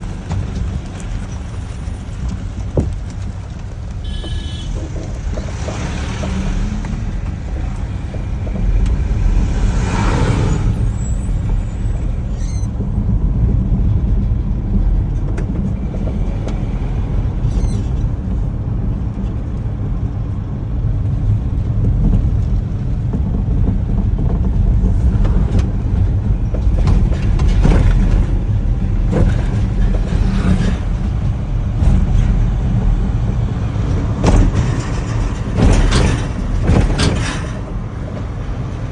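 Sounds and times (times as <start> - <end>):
truck engine rumbling: 0.0 - 38.9.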